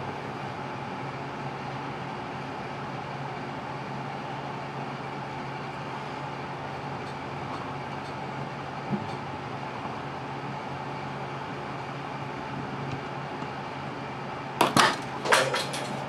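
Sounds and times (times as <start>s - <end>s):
workshop hum: 0.0s - 16.0s.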